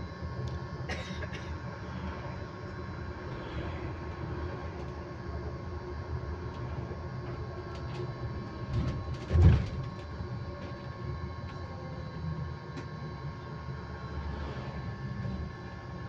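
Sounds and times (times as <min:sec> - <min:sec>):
electric bus whine: 0:00.0 - 0:16.0
low rumble of the ride: 0:00.0 - 0:16.0.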